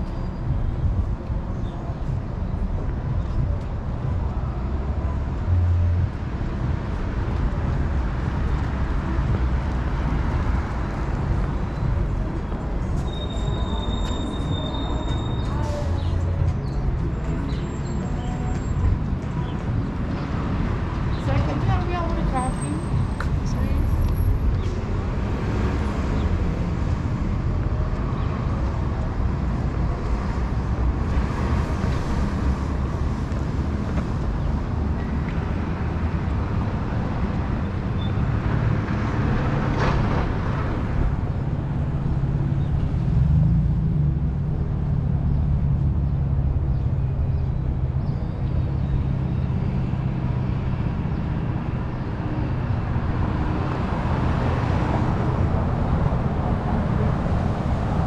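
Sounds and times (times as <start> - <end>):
cars going by: 0.0 - 58.0.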